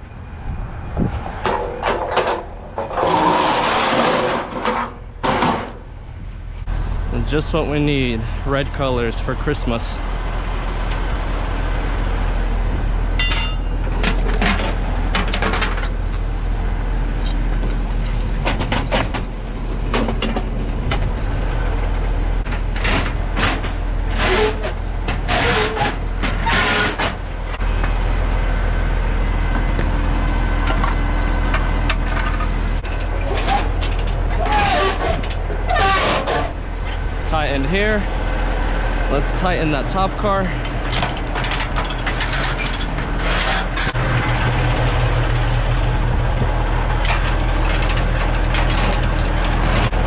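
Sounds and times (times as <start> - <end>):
diesel engine idling: 5.8 - 26.5, 27.1 - 50.0.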